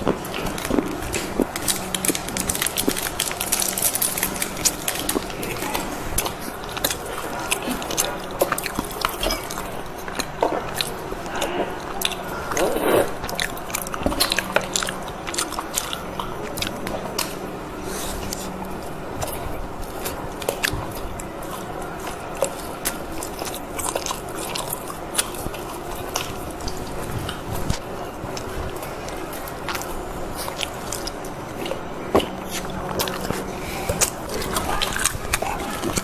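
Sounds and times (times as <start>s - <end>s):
chewing and biting: 0.0s - 36.0s.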